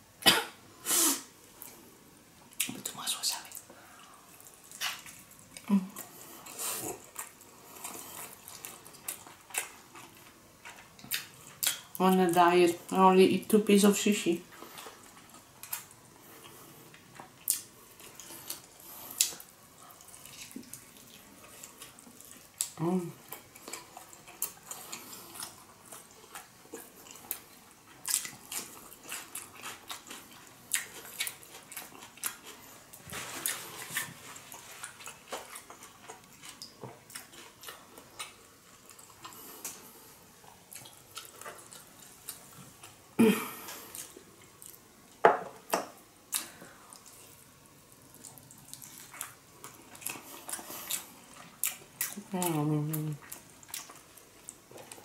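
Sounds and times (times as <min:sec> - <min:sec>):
wet chewing mouth sounds: 0:04.4 - 0:12.0, 0:14.6 - 0:44.8, 0:45.7 - 0:55.0.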